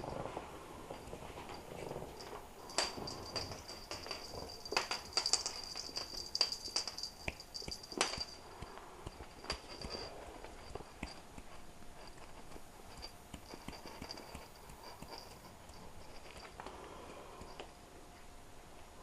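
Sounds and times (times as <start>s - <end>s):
kittens tapping and clicking: 1.0s - 17.8s.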